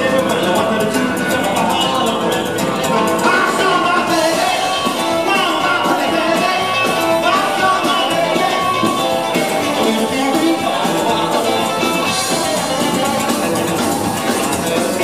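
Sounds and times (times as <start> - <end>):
live rockabilly band playing: 0.0 - 15.0
man singing lead vocal: 0.0 - 15.0.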